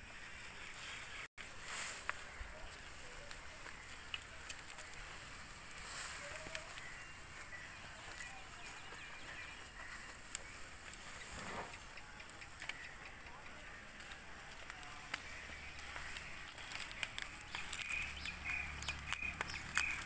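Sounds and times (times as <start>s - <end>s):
steady outdoor hiss: 0.0s - 20.0s
cattle chewing fodder stalks: 0.5s - 20.0s.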